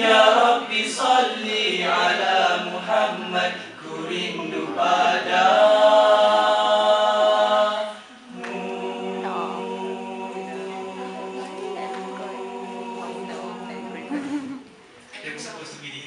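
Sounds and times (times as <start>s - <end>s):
male voices singing in harmony: 0.0s - 14.6s.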